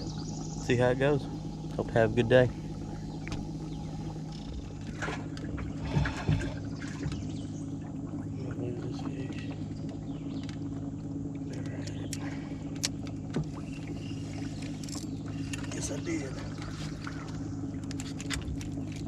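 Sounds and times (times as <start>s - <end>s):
boat low hum: 0.0s - 19.0s
water sloshing: 0.0s - 19.0s.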